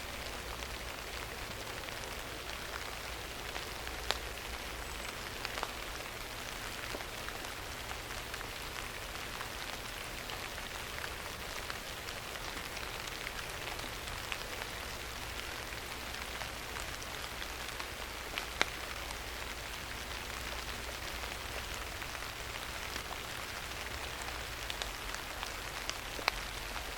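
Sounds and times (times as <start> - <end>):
steady rain patter: 0.0 - 26.9.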